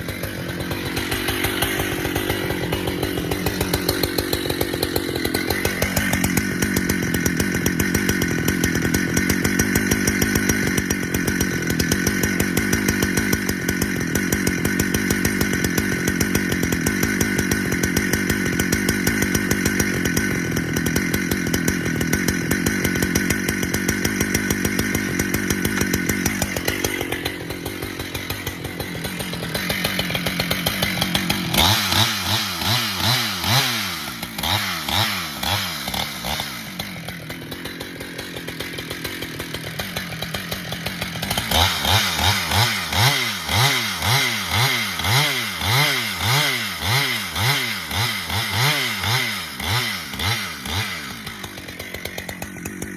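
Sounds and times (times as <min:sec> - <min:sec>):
chainsaw cutting wood: 0:00.0 - 0:52.9
chainsaw engine revving: 0:00.0 - 0:52.9.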